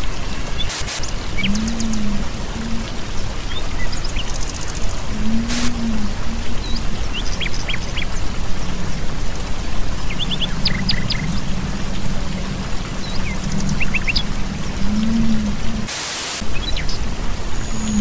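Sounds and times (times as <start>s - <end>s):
small birds chirping: 0.0s - 18.0s
waterfall rushing: 0.0s - 18.0s
low steady hum: 1.2s - 18.0s.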